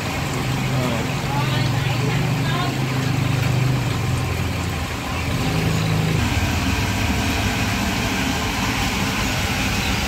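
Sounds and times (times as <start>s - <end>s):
gas burner roaring: 0.0s - 10.0s
oil sizzling: 0.0s - 10.0s.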